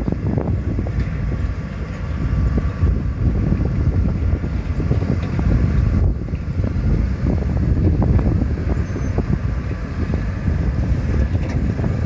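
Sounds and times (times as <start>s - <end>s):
diesel engine running: 0.0s - 12.0s
wind rumbling on microphone: 0.0s - 12.0s.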